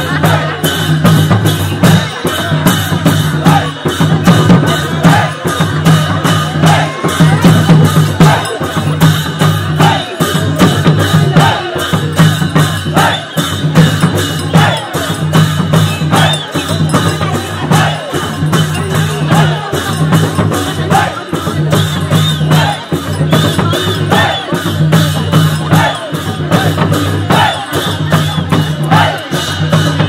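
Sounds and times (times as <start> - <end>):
cymbals clashing: 0.0 - 30.0
drums: 0.0 - 30.0.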